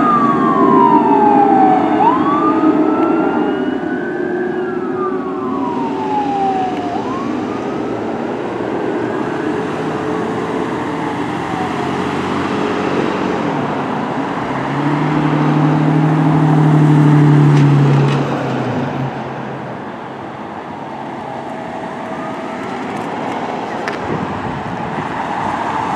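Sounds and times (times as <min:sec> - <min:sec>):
fire engine siren wailing: 0:00.0 - 0:25.9
road traffic: 0:00.0 - 0:25.9.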